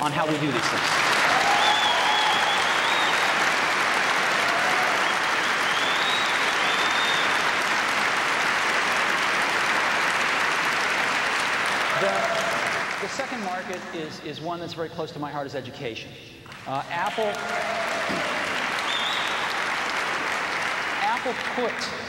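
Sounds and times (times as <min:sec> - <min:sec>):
audience applauding: 0:00.0 - 0:13.9, 0:16.5 - 0:22.0.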